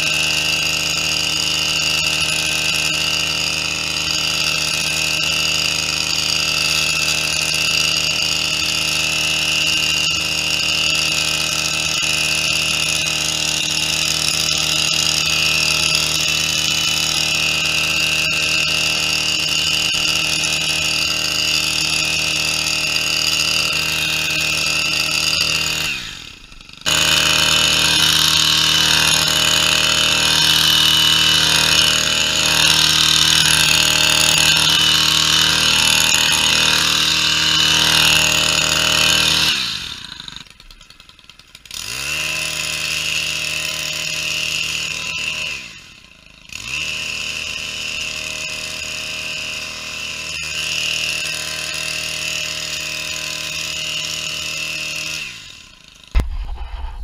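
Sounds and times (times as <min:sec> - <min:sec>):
hedge trimmer engine running: 0:00.0 - 0:57.0.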